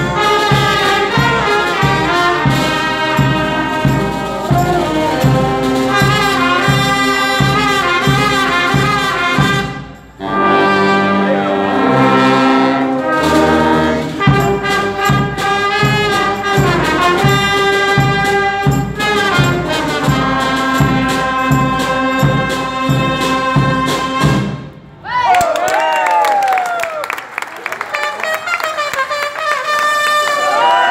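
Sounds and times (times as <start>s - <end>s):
brass band playing lively tune: 0.0s - 24.8s, 27.8s - 30.9s.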